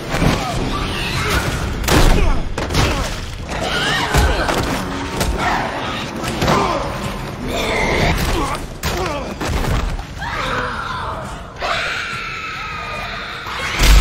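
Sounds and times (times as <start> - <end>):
dramatic orchestral score: 0.0 - 14.0.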